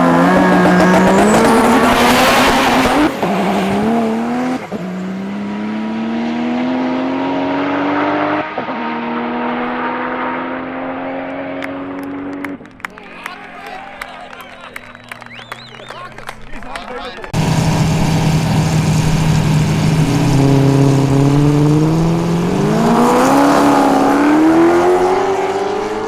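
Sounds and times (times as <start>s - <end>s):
racing car accelerating: 0.0s - 12.9s, 17.2s - 26.0s.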